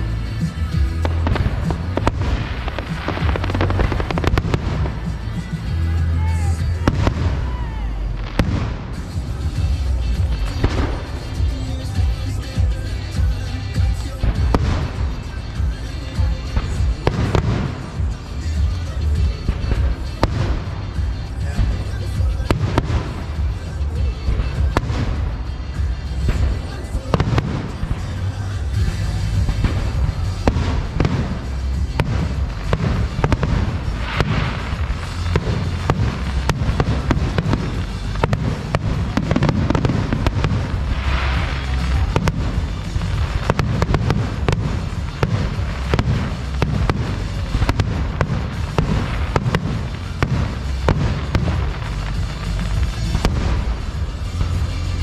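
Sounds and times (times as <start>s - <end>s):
deep rumble: 0.0s - 55.0s
fireworks bursting and banging: 0.0s - 55.0s
fireworks hissing: 0.0s - 55.0s.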